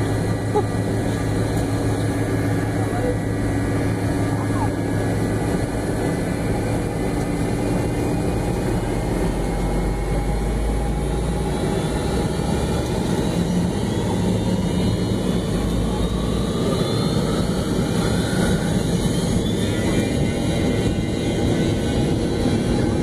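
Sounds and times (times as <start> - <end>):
jet engines rumbling in cabin: 0.0 - 23.0.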